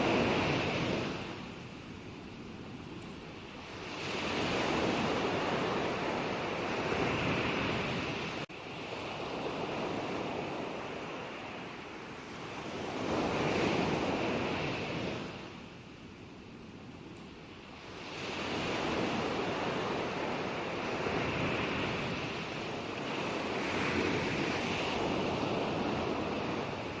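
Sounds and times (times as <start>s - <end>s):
ocean waves rushing and washing: 0.0s - 27.0s.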